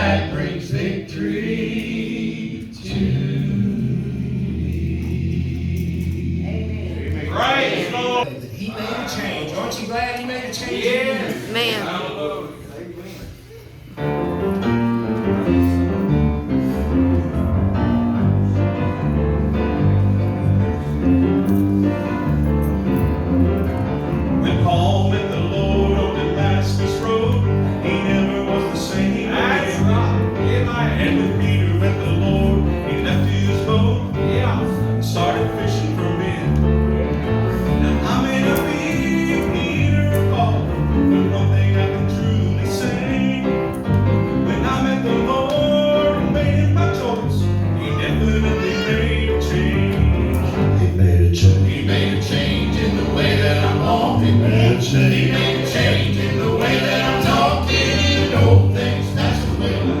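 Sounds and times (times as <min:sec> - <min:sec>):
gospel singing: 0:00.0 - 0:09.4, 0:14.0 - 1:00.0.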